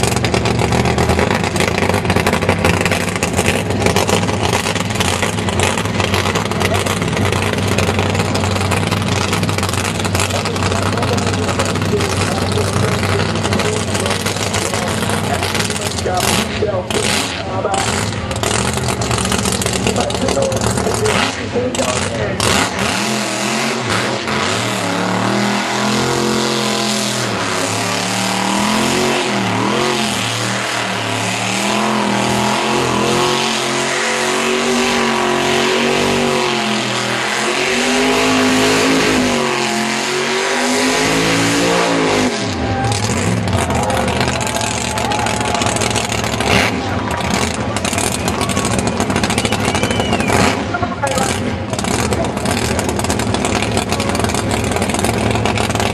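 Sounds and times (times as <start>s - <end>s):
car engine revving high: 0.0s - 55.9s
rough noisy sound: 0.0s - 55.9s.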